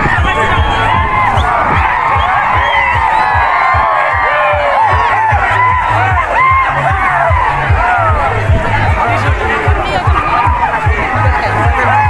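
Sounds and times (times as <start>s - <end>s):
crowd shouting: 0.0s - 12.0s
music with fast low beat: 0.0s - 12.0s.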